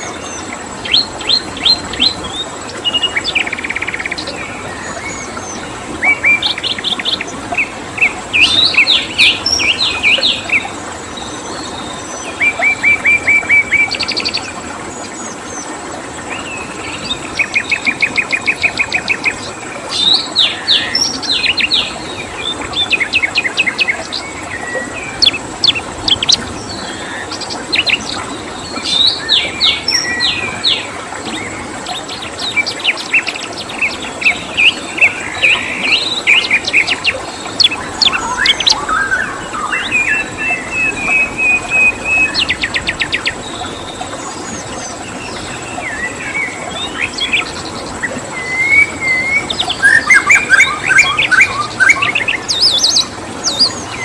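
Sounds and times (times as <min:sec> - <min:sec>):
running water hiss: 0:00.0 - 0:54.0
songbirds chirping and trilling: 0:00.0 - 0:54.0.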